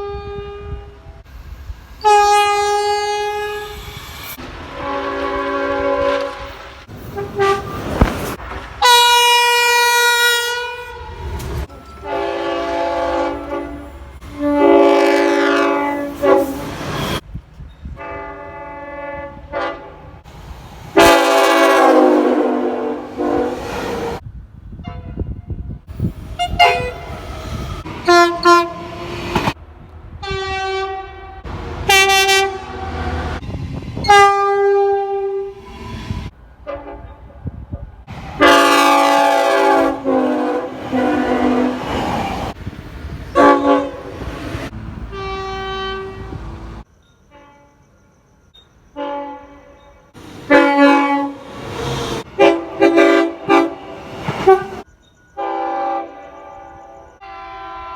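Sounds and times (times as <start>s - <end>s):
locomotive air horn blasts: 0.0s - 1.2s, 2.0s - 11.4s, 12.0s - 17.2s, 18.0s - 20.2s, 21.0s - 24.2s, 24.8s - 25.7s, 26.3s - 29.6s, 30.2s - 33.4s, 34.0s - 37.3s, 38.1s - 42.6s, 43.3s - 47.8s, 49.0s - 57.9s
low rumble of moving train: 0.0s - 57.9s.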